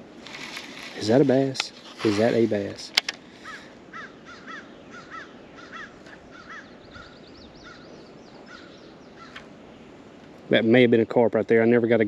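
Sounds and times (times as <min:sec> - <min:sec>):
high wavering birdsong: 0:00.0 - 0:12.0.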